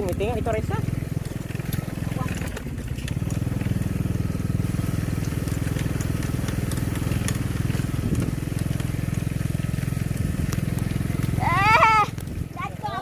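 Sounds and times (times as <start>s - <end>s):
gravel ticking under tyres: 0.0s - 13.0s
small motorcycle engine running: 0.0s - 13.0s.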